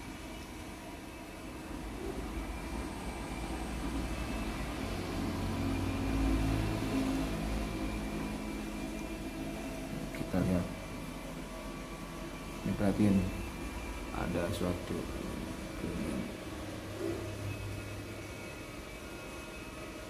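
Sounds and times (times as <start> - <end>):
washing machine motor humming: 0.0 - 20.0.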